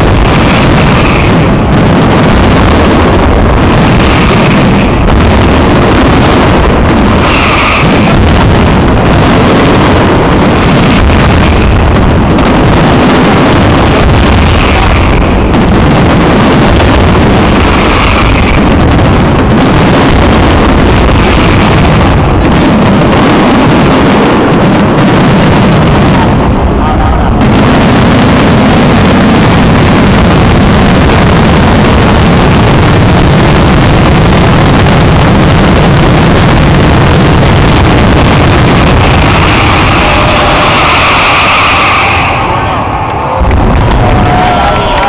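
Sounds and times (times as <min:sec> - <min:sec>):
firework shells bursting: 0:00.0 - 0:45.0.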